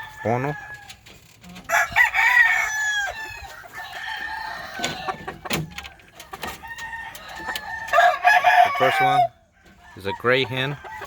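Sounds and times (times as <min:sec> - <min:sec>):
roosters crowing: 0:00.0 - 0:11.0.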